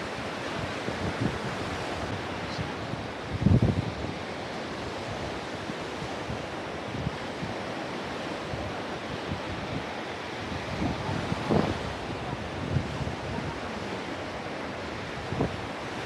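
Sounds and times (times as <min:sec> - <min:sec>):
sea surf washing onto beach: 0:00.0 - 0:16.0
wind buffeting microphone: 0:00.0 - 0:16.0.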